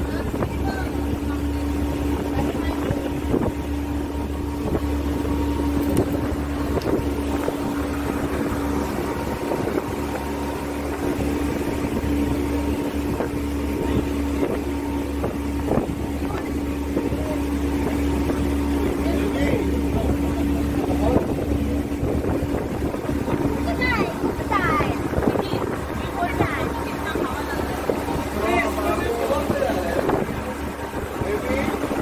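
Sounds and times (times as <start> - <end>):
boat engine humming: 0.0 - 32.0
wind buffeting microphone: 0.0 - 32.0.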